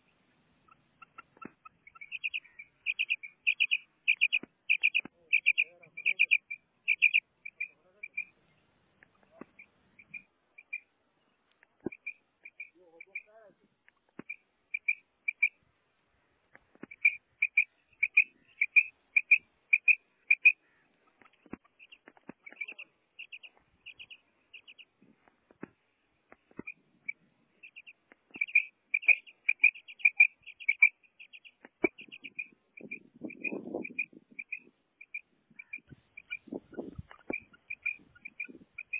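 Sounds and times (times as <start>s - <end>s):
quail high chirps: 0.6s - 8.4s, 9.0s - 10.9s, 11.6s - 15.6s, 16.7s - 25.0s, 25.6s - 38.9s.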